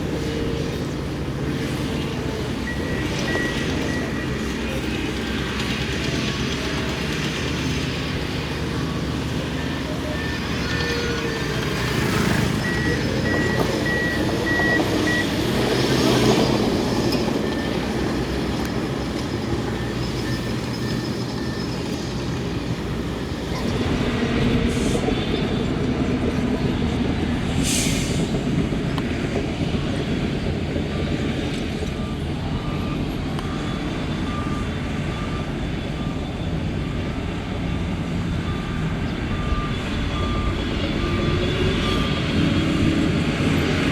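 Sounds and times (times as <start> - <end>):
heavy diesel machinery running: 0.0 - 43.9
high-pitched reversing alarm beeping: 0.1 - 25.6, 30.9 - 43.8
low-pitched reversing alarm beeping: 0.1 - 27.3, 30.8 - 43.7.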